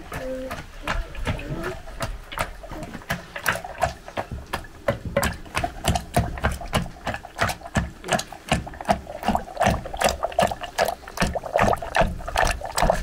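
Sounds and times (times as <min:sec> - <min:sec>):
wooden pestle pounding in mortar: 0:00.0 - 0:13.0.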